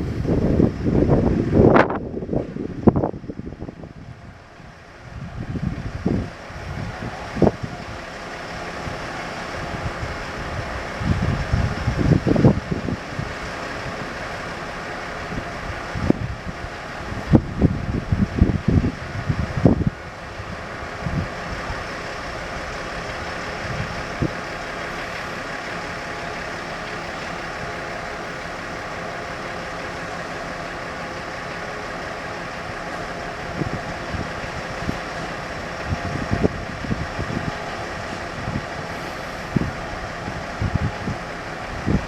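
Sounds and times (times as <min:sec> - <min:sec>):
train idling hum: 0:00.0 - 0:42.0
wind buffeting microphone: 0:00.0 - 0:42.0.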